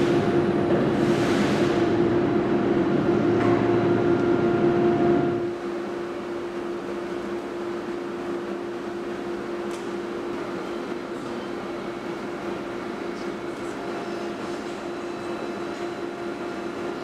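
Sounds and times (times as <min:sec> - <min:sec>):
low rough machine noise: 0:00.0 - 0:17.0
overhead crane electric hum: 0:00.0 - 0:17.0.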